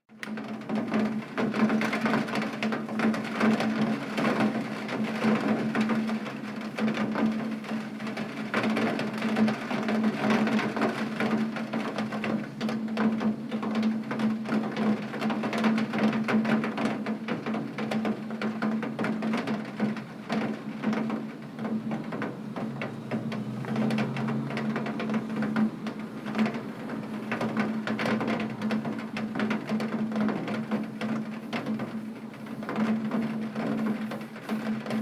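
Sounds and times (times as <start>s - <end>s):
heavy rain hitting a window: 0.1s - 35.0s.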